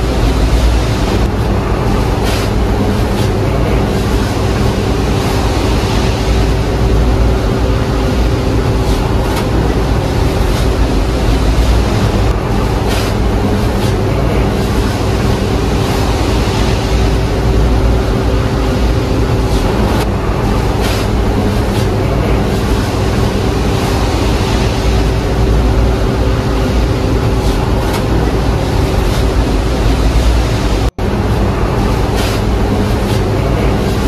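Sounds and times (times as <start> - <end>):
loud machine hum: 0.0 - 34.0
rushing noise: 0.0 - 34.0.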